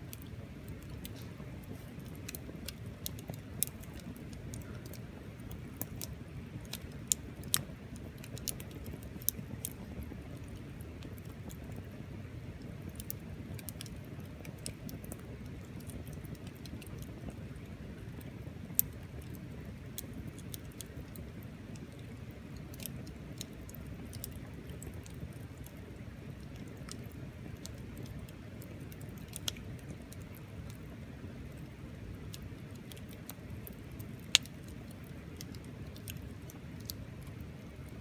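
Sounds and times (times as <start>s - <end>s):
bonfire crackling: 0.0s - 38.0s
low steady rumble: 0.0s - 38.0s.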